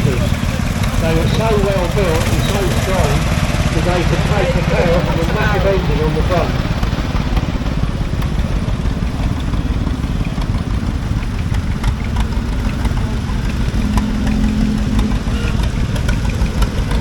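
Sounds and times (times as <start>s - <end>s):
tractor engines rumbling: 0.0s - 17.0s.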